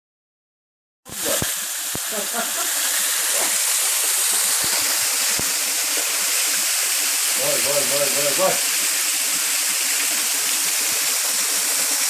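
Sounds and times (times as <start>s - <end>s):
waterfall rushing: 1.1s - 12.0s.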